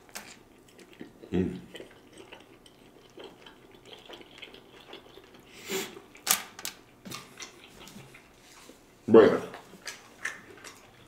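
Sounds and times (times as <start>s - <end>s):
person chewing food: 0.0s - 9.0s, 9.6s - 11.0s.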